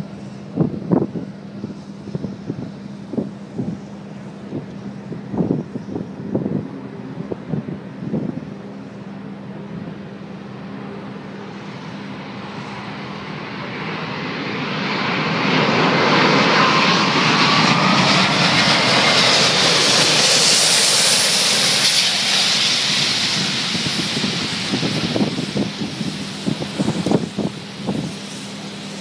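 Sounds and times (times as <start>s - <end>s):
jet airliner engines roaring: 0.0s - 29.0s.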